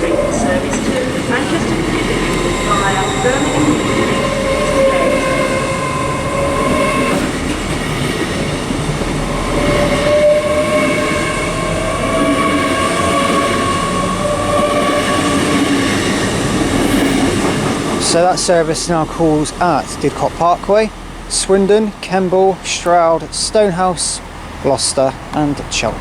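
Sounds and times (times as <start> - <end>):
train rumbling with rising whine: 0.0 - 26.0.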